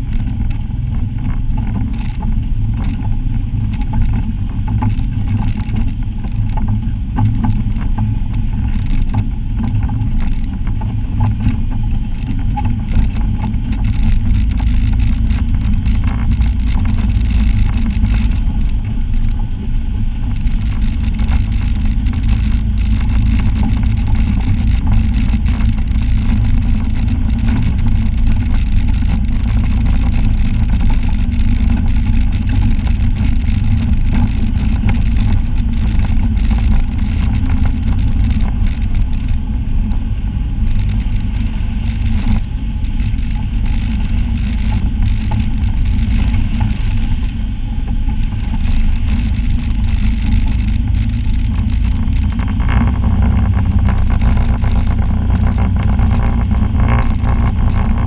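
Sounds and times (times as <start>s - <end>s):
clicks and rattles: 0.0s - 47.4s, 48.1s - 58.0s
vehicle engine running: 0.0s - 58.0s.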